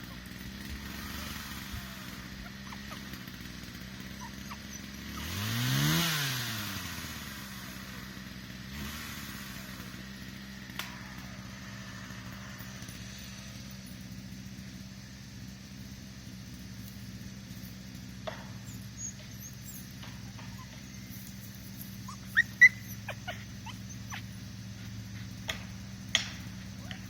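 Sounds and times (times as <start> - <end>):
chainsaw idling and revving: 0.0 - 27.0.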